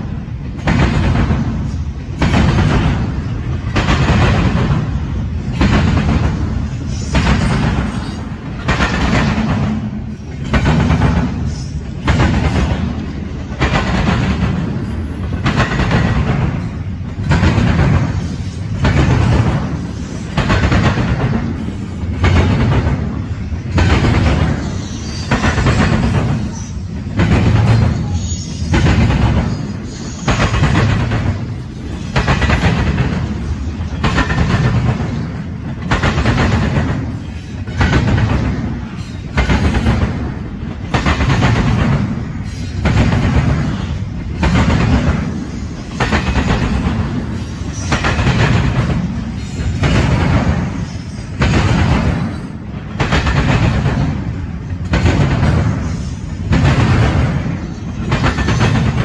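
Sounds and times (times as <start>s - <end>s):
freight train rolling past: 0.0s - 59.0s
train wheels clattering over crossing: 0.0s - 59.0s.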